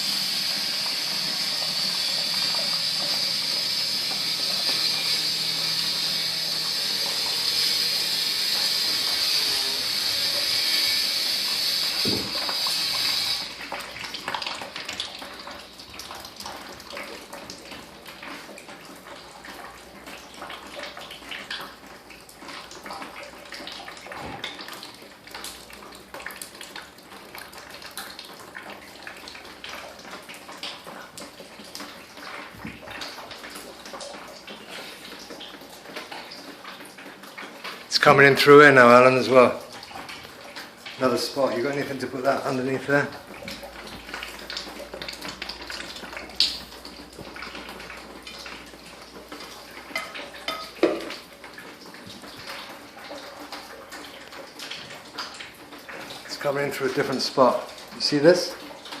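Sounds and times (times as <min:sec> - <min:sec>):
water stream splashing: 0:00.0 - 0:19.1, 0:28.7 - 0:59.0
water dripping: 0:00.0 - 0:59.0.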